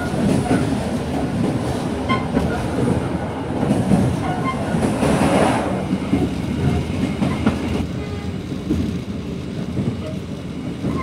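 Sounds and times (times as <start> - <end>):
train wheels on rails: 0.0 - 11.0.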